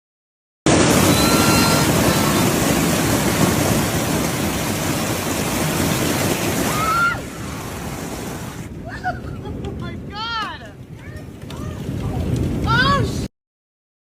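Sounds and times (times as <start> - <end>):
heavy hail and rain clattering: 0.7 - 13.3.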